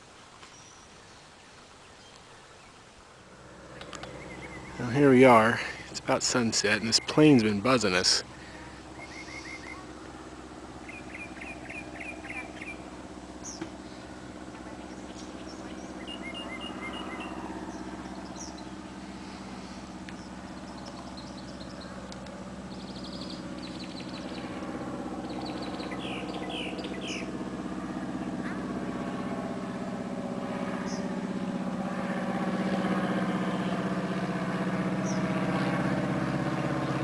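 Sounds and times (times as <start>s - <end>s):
birds chirping: 0.4s - 31.7s, 32.4s - 37.0s
small plane engine droning: 1.7s - 37.0s.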